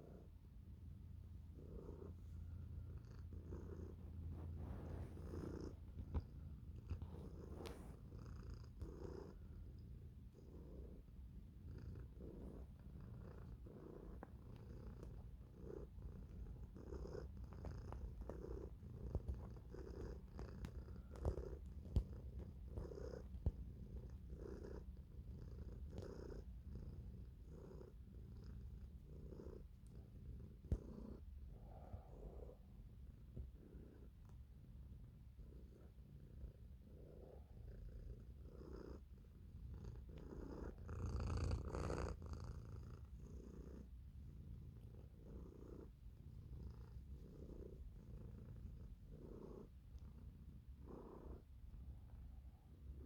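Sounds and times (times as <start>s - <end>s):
cat purring: 0.0s - 53.0s.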